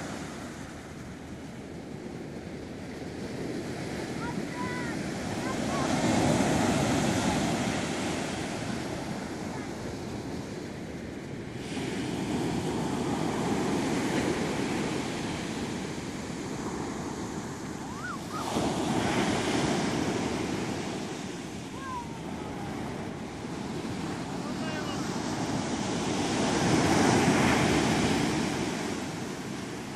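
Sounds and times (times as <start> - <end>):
surf breaking on a beach: 0.0 - 29.9.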